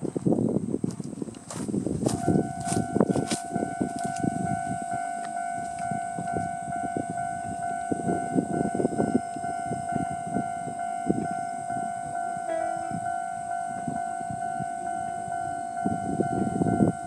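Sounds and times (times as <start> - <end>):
level crossing warning bell: 2.1 - 17.0.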